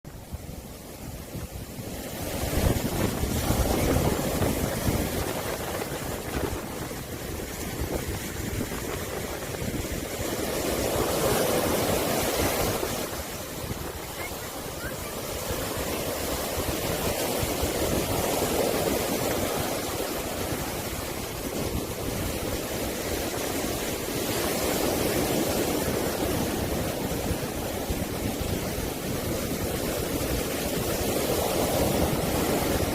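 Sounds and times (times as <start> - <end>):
sea waves washing in: 0.1 - 32.9.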